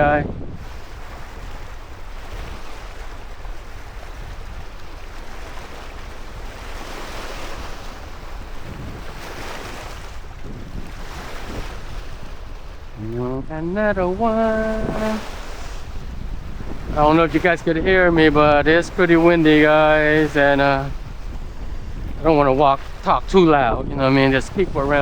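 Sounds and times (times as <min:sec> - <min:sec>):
water rushing: 0:00.0 - 0:25.0
wind buffeting microphone: 0:00.0 - 0:25.0.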